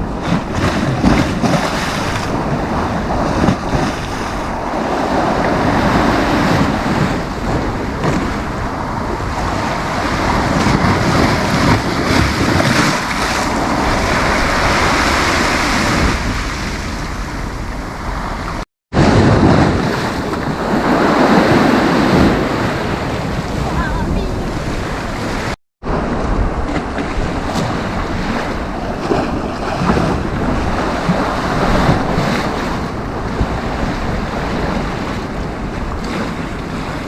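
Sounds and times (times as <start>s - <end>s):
sea waves breaking: 0.0s - 37.0s
wind rumbling on microphone: 0.0s - 37.0s.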